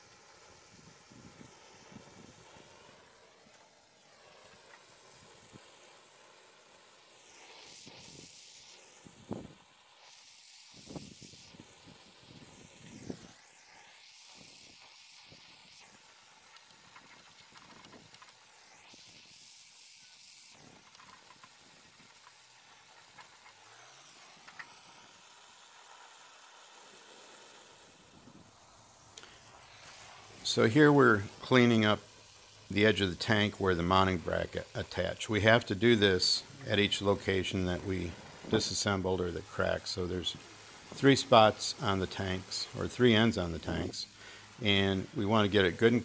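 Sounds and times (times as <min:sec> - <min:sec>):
gas torch flame hissing: 0:00.0 - 0:46.0.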